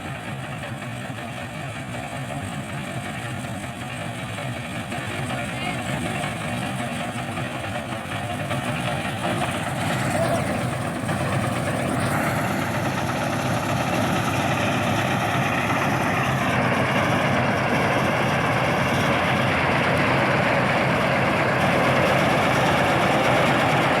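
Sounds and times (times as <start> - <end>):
harvesting machinery engine running: 0.0 - 24.0.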